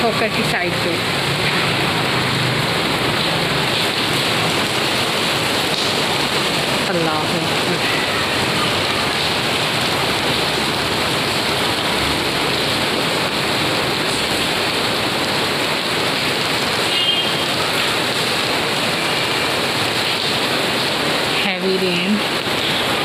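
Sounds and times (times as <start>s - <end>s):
heavy rain on street: 0.0s - 23.0s.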